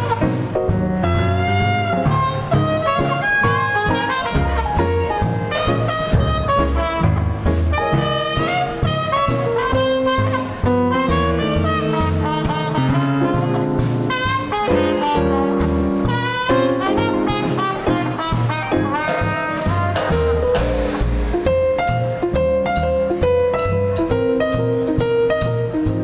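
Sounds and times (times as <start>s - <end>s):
saxophone and trumpet melody: 0.0s - 21.7s
swing band playing: 0.0s - 26.0s.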